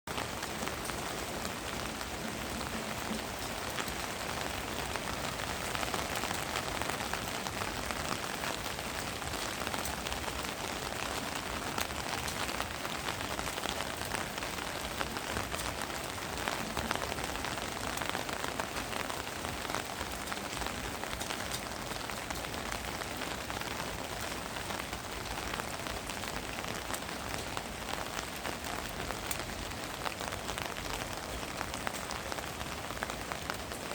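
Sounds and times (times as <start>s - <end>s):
rain pattering: 0.1s - 33.9s.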